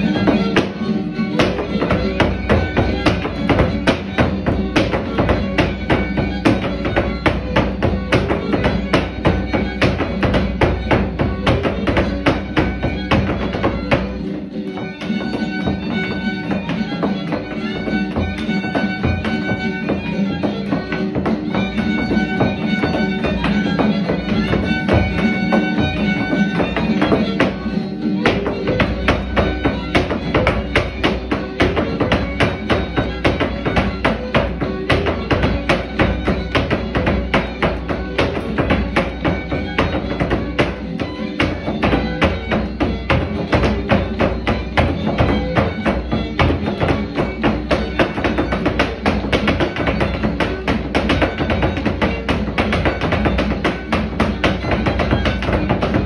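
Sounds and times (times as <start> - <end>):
violin and guitar folk music: 0.0 - 56.0.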